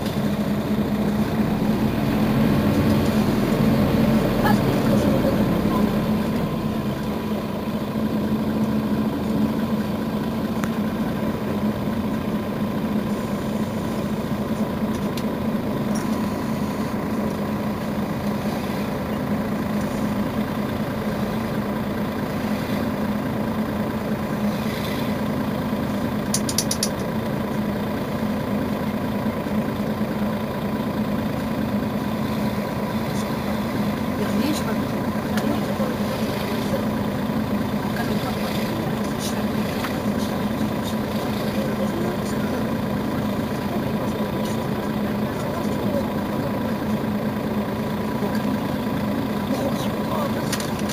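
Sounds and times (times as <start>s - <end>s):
bus engine idling: 0.0s - 50.9s.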